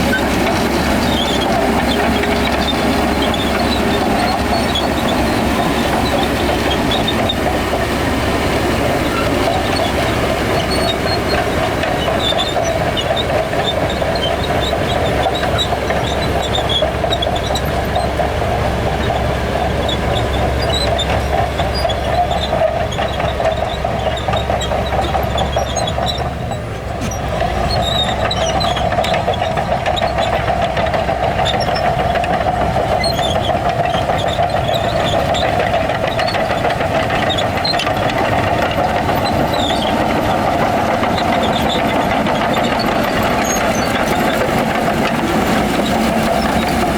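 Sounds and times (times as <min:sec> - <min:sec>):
diesel engine running under load: 0:00.0 - 0:46.9
steel tracks clattering and squeaking: 0:00.0 - 0:46.9.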